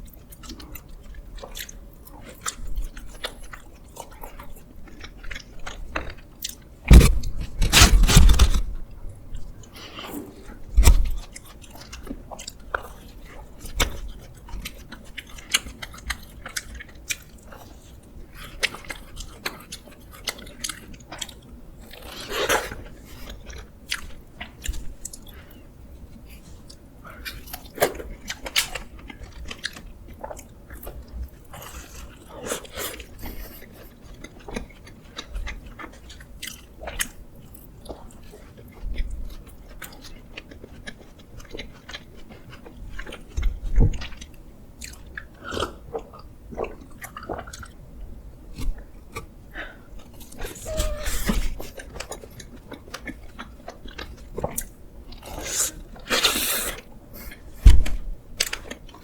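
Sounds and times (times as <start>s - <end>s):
chewing and biting: 0.3s - 8.7s, 9.6s - 25.6s, 26.6s - 47.8s, 50.0s - 59.0s.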